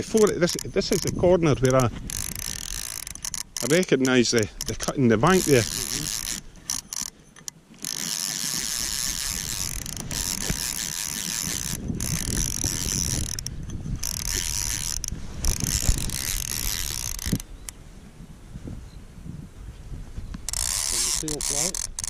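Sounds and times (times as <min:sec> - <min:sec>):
fishing reel ratchet buzzing: 0:00.0 - 0:17.8, 0:20.4 - 0:22.0.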